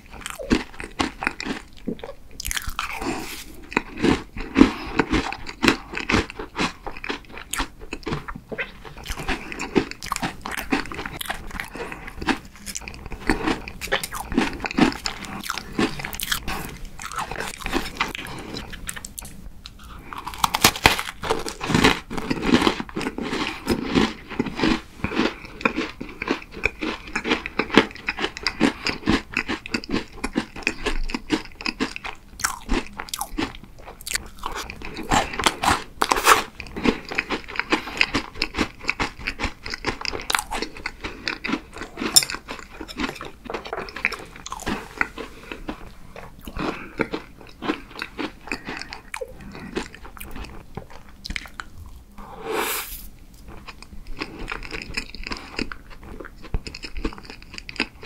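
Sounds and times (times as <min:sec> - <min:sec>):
crunchy cookie chewing: 0:00.0 - 0:52.2, 0:53.3 - 0:58.0.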